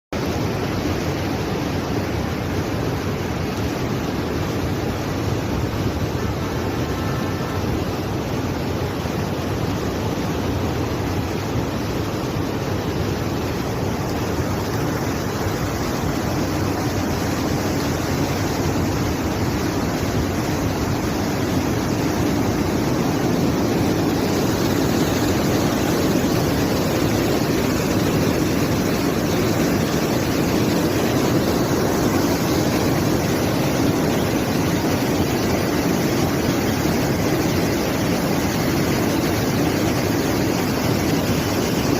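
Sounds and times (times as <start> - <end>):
turbulent water rushing: 0.2 - 41.9.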